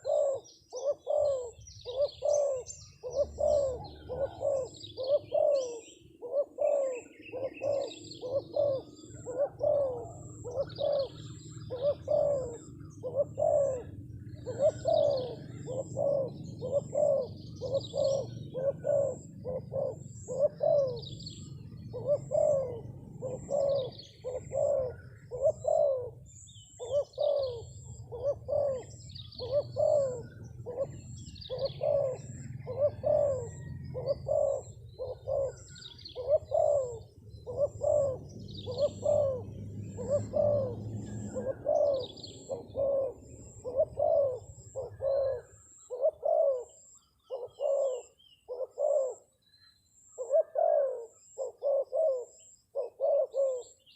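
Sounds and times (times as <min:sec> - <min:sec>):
dove cooing: 0:00.0 - 0:53.9
small birds chirping faintly: 0:00.0 - 0:53.9.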